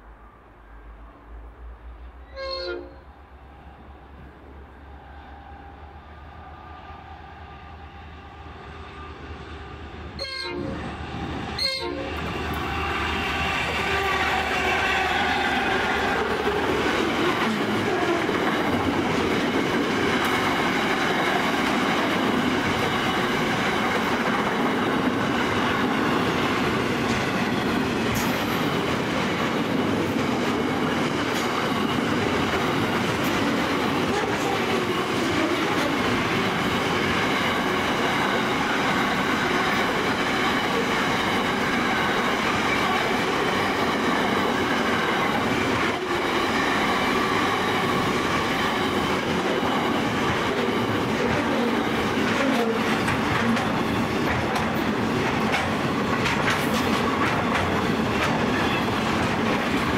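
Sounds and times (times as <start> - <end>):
train wheels rolling on rails: 3.2 - 59.9.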